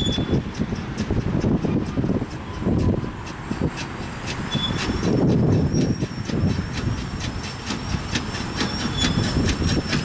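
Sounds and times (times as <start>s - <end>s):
high wheel squeal: 0.0s - 0.6s, 2.4s - 10.0s
train rumble: 0.0s - 10.0s
train wheels clicking on rails: 0.0s - 10.0s.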